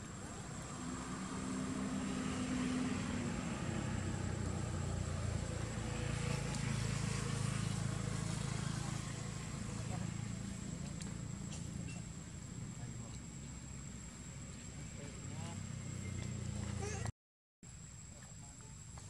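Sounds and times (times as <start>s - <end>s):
vehicle engine hum: 0.0s - 17.1s.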